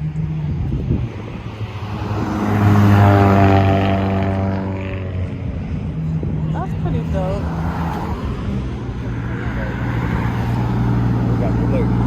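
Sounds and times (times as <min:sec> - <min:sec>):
car engine driving past: 0:01.2 - 0:12.0.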